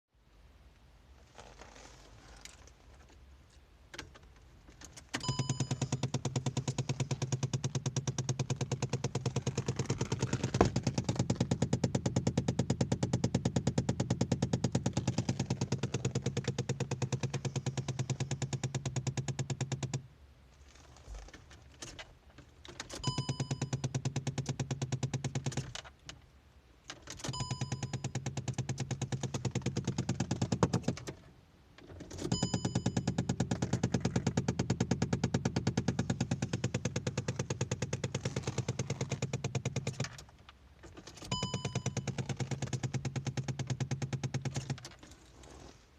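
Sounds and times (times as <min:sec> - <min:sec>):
rapid knocking under dashboard: 0:04.0 - 0:20.1, 0:20.7 - 0:26.1, 0:27.0 - 0:31.3, 0:31.9 - 0:45.6.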